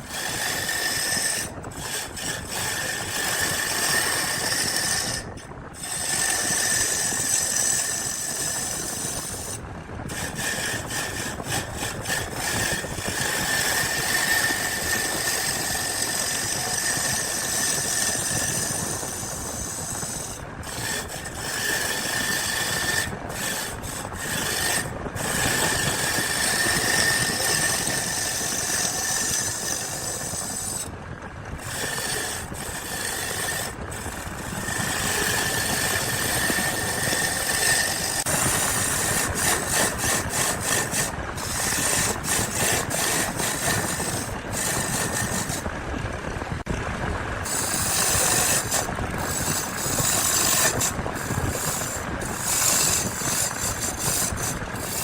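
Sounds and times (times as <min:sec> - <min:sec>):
tool rasping wood: 0:00.0 - 0:30.9, 0:31.5 - 0:45.7, 0:47.4 - 0:55.0.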